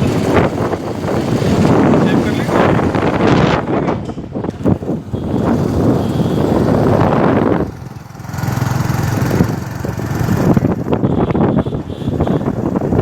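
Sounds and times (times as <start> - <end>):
motorcycle engine running: 0.0 - 3.8, 4.5 - 13.0.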